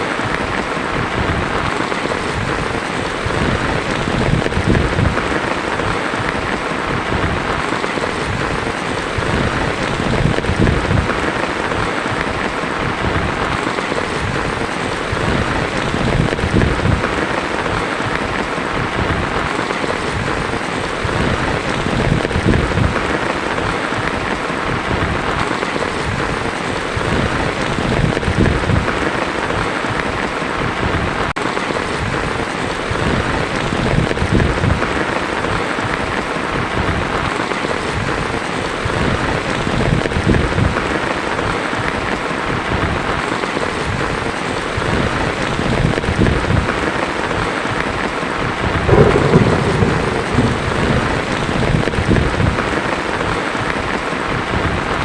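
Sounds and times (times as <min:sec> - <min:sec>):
thunder rumbling: 0:00.0 - 0:40.9, 0:48.4 - 0:55.0
heavy rain on a tin roof: 0:00.0 - 0:55.0.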